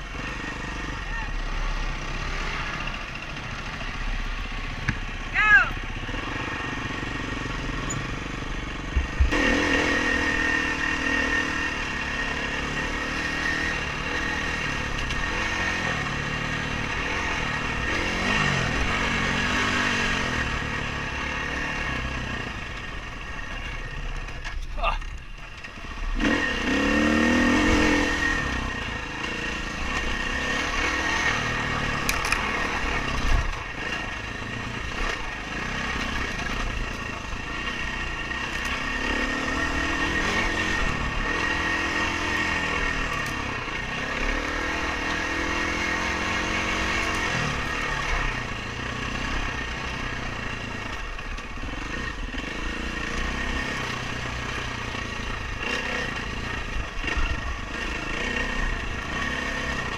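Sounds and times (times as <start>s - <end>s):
dirt bike engine revving: 0.0s - 24.3s, 25.0s - 59.9s.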